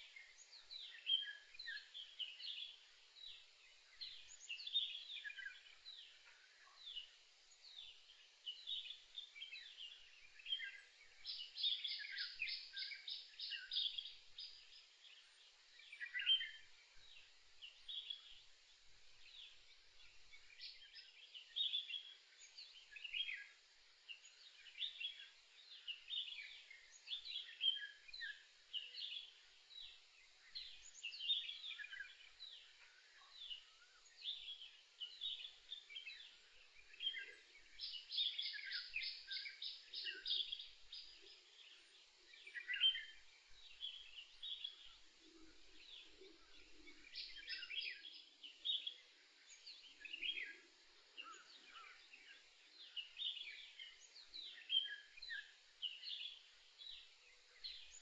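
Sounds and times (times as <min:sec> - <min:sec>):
birds chirping in forest: 0:00.0 - 0:58.0.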